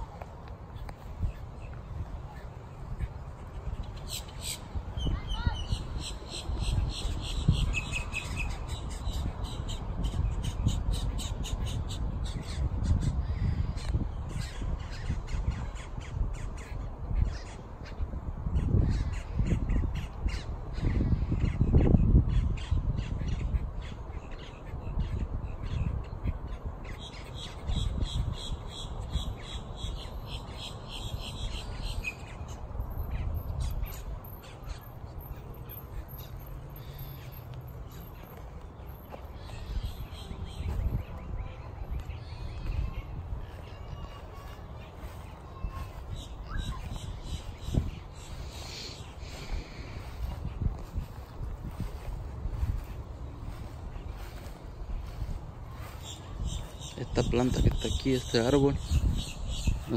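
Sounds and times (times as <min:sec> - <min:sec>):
birds calling sharp notes: 0:00.7 - 0:18.0, 0:18.6 - 0:59.9.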